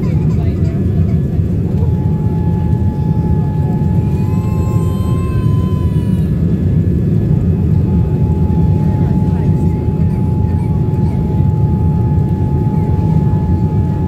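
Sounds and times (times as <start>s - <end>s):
airflow and engine rush: 0.0s - 14.0s
steady whine: 0.0s - 14.0s
higher rising whine: 0.8s - 14.0s.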